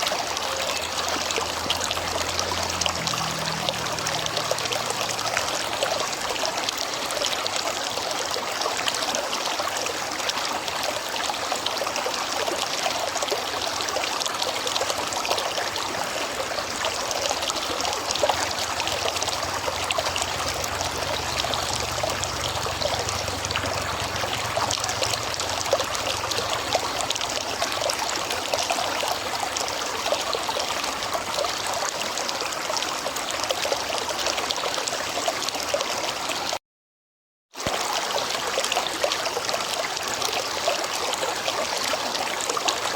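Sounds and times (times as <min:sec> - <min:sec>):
river water flowing: 0:00.0 - 0:36.6, 0:37.6 - 0:42.9.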